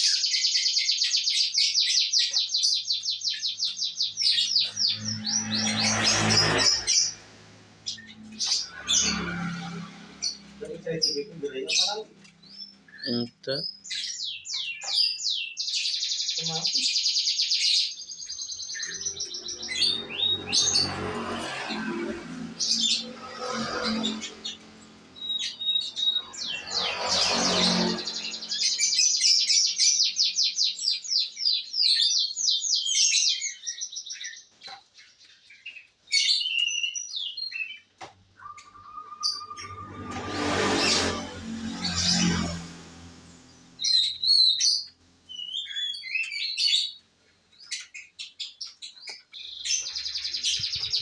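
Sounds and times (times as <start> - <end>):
canary singing: 0.0 - 21.0, 22.2 - 40.1, 43.2 - 51.0.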